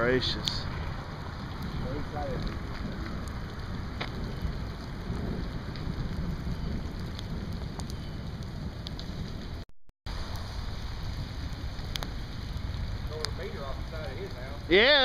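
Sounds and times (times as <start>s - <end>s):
low rumble: 0.0s - 14.8s
steady rain: 0.0s - 15.0s.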